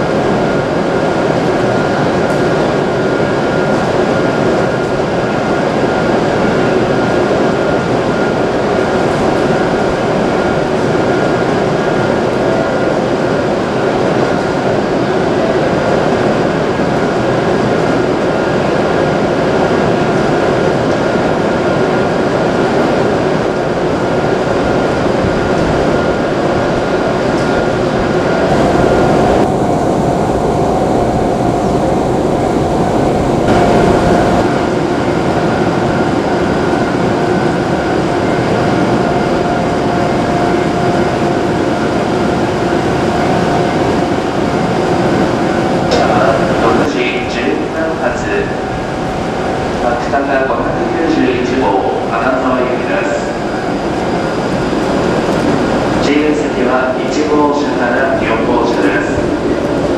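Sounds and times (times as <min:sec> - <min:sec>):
train running with whining tones: 0:00.0 - 0:59.9.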